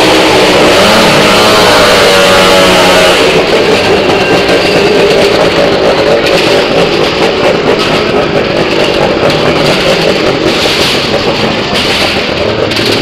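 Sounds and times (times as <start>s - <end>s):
loud vehicle engine noise: 0.0s - 13.0s.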